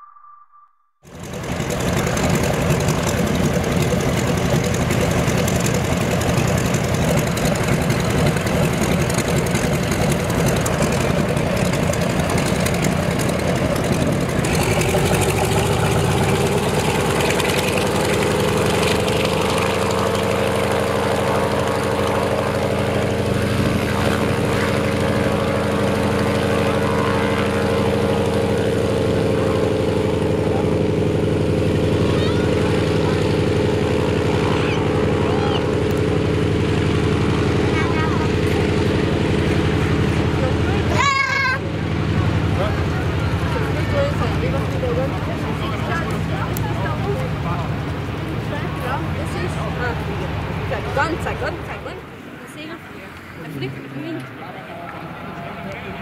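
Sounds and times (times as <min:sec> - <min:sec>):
radial aircraft engine running: 0:01.0 - 0:56.0.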